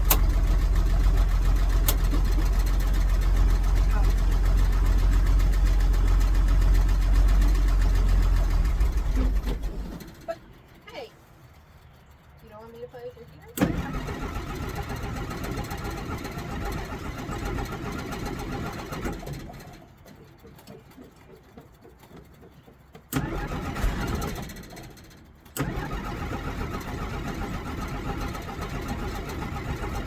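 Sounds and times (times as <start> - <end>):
hard-starting engine: 0.0 - 10.8, 13.5 - 21.1, 22.2 - 30.0.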